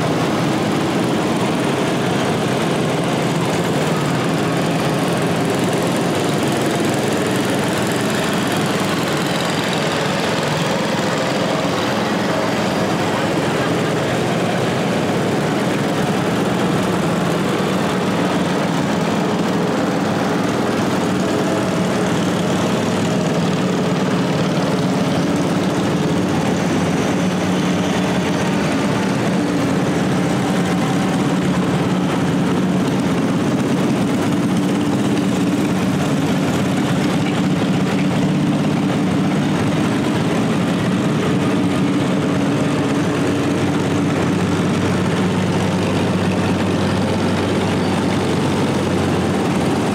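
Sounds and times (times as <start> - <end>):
garden tractor engines passing: 0.0 - 49.9.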